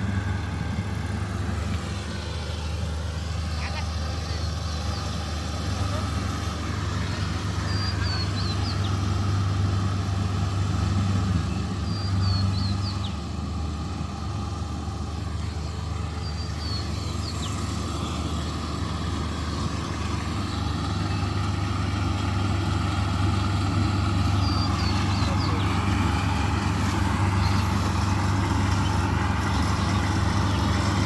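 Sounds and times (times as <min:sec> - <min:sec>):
harvester engine humming: 0:00.0 - 0:31.0.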